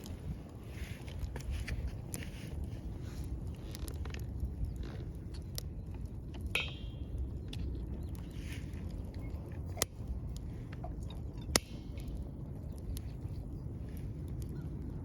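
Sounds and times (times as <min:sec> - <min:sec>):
campfire crackling: 0:00.0 - 0:15.0
wood popping in fire: 0:00.0 - 0:15.0.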